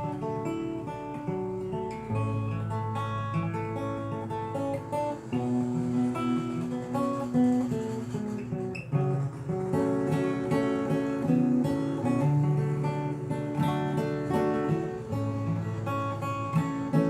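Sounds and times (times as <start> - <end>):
fingerstyle acoustic guitar: 0.0 - 17.0.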